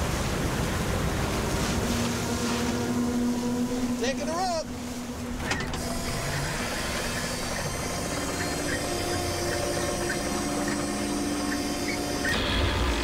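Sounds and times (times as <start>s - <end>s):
boat engine running: 0.0s - 13.0s
water washing along hull: 0.0s - 13.0s.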